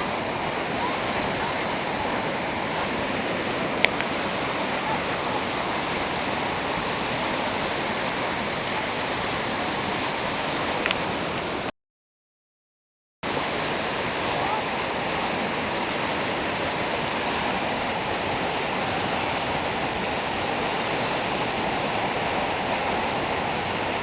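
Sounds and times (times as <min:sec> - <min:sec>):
river water rushing: 0:00.0 - 0:11.7, 0:13.3 - 0:24.0.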